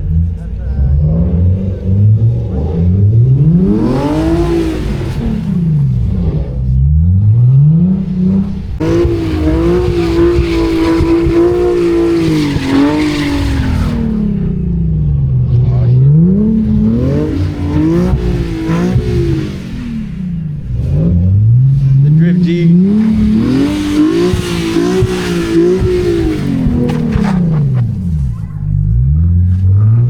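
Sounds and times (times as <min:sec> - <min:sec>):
car engine revving hard: 0:00.0 - 0:30.0
spinning tyres rushing: 0:00.0 - 0:30.0.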